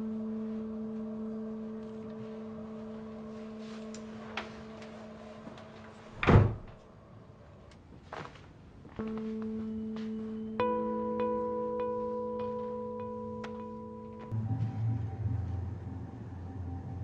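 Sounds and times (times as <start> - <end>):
low hum: 0.0 - 7.9, 9.0 - 17.0.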